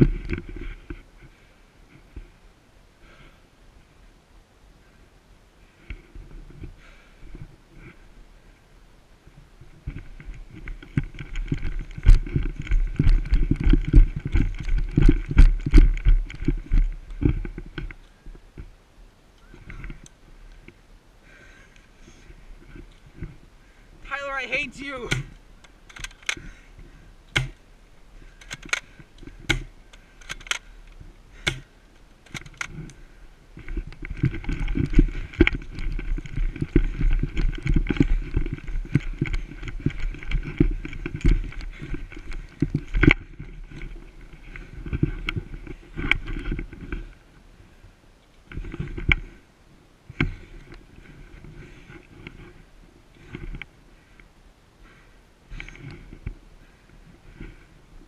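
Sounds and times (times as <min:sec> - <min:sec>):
rustling and scraping: 0:00.0 - 0:02.4, 0:09.3 - 0:18.8, 0:21.6 - 0:49.5, 0:50.1 - 0:54.2, 0:54.9 - 0:58.0.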